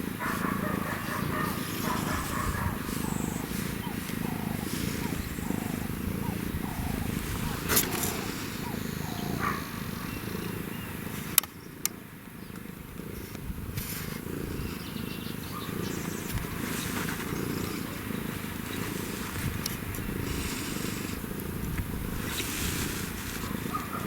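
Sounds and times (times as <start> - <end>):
wildcat purring: 0.0 - 24.0.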